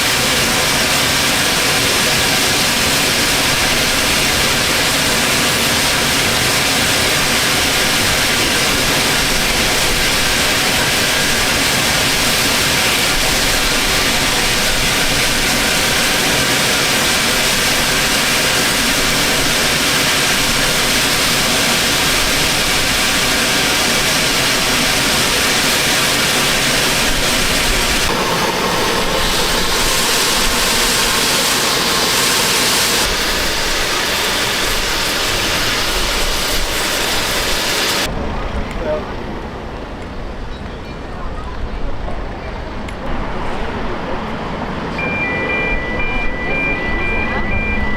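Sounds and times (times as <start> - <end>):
train running: 0.0 - 47.9.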